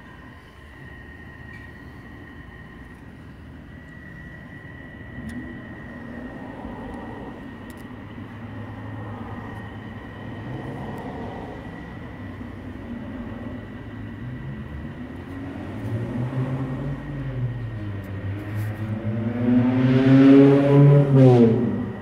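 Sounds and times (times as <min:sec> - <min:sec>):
distant engine rumble: 0:00.0 - 0:22.0.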